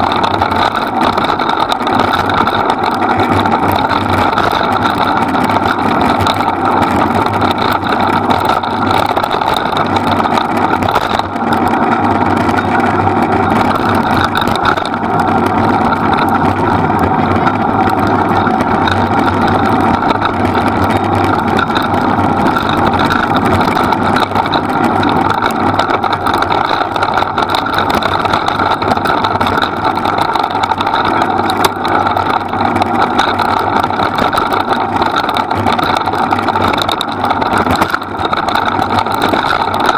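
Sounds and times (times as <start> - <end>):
vehicle engine running steadily: 0.0 - 39.9
wheels rolling over dirt track: 0.0 - 39.9.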